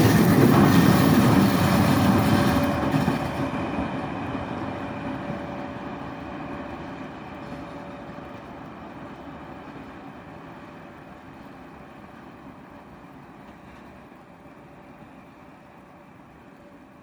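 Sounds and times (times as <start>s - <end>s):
freight train rumble: 0.0s - 17.0s.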